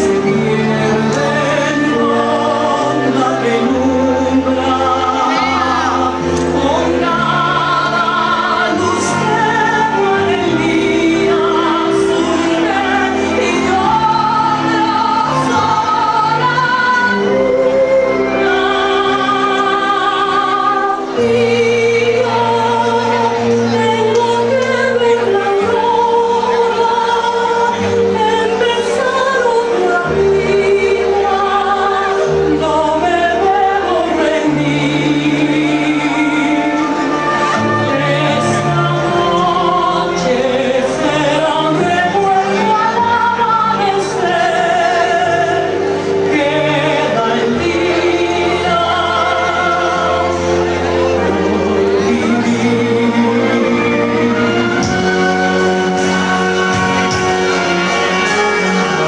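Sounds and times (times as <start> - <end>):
orchestral accompaniment: 0.0 - 59.0
person singing long notes: 0.0 - 59.0.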